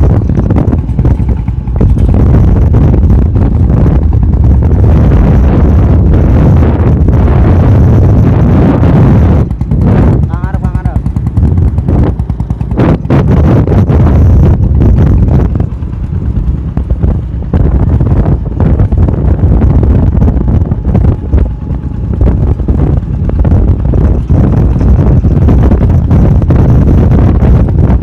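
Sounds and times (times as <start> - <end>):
motorcycle engine pulsing: 0.0 - 28.0
wind buffeting microphone: 0.0 - 28.0.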